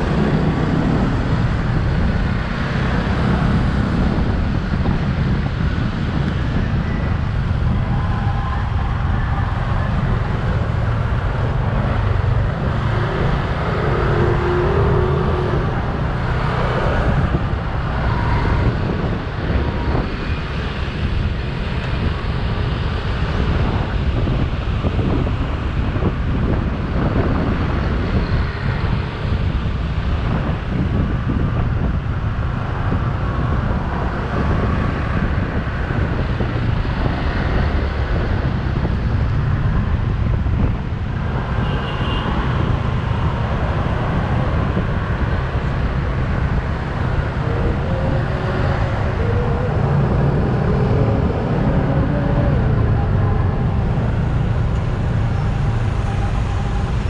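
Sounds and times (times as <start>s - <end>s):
motorcycle engine and road rumble: 0.0s - 57.0s
traffic noise: 0.0s - 57.0s
wind buffeting microphone: 0.0s - 57.0s.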